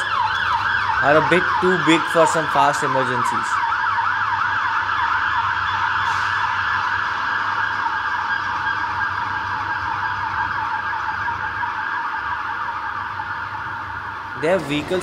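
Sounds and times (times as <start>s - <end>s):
fire engine siren sweeping: 0.0s - 15.0s.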